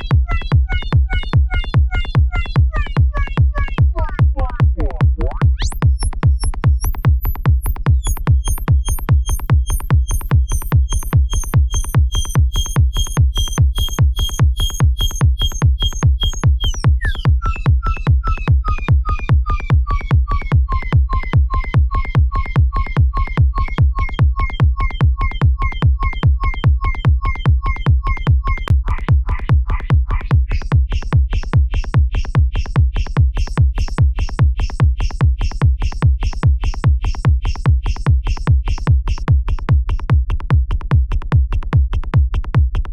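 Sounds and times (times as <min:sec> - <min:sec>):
synthesized hi-hat ticks: 0:00.0 - 0:39.7
techno kick drum and bassline: 0:00.0 - 0:42.9.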